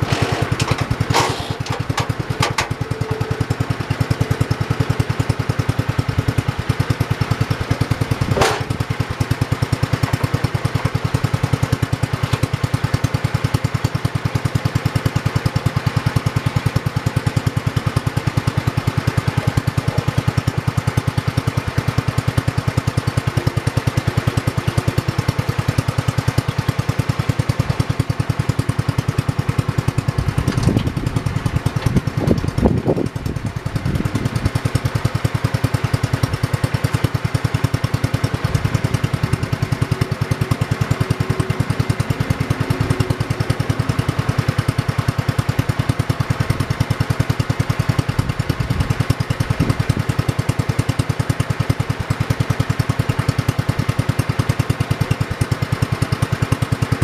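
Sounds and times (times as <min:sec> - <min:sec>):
lawn tractor engine running: 0:00.0 - 0:57.0.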